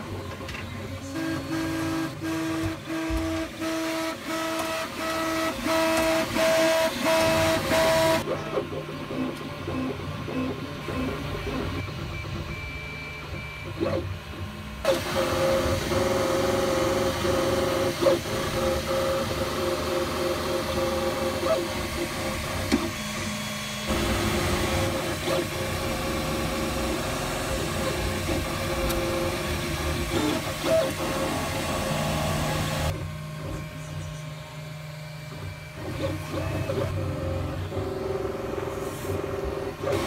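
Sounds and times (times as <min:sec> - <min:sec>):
cooling fan whirring: 0:00.0 - 0:40.0
printer motors whining: 0:00.0 - 0:40.0.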